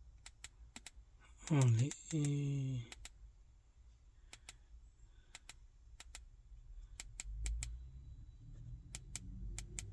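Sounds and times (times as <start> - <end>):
faint low rumble: 1.1 - 9.9.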